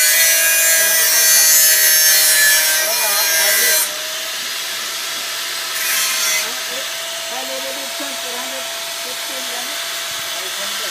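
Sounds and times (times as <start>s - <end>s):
angle grinder grinding metal: 0.0s - 10.9s
grinder motor whine: 0.0s - 10.9s.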